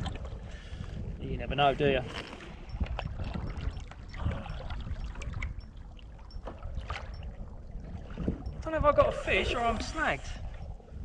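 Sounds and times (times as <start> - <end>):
water sloshing around kayak: 0.0 - 11.0.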